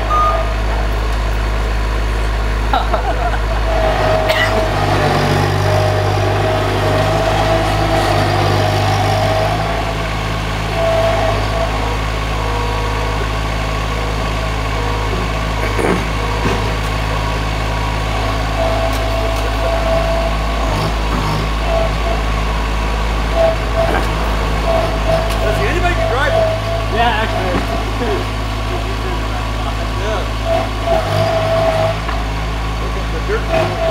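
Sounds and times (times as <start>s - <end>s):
high whine: 0.0s - 32.2s
loader engine running: 0.0s - 33.9s.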